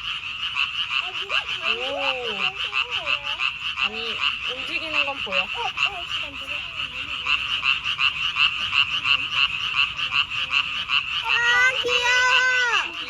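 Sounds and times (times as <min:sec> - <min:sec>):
chorus of frogs croaking: 0:00.0 - 0:13.0.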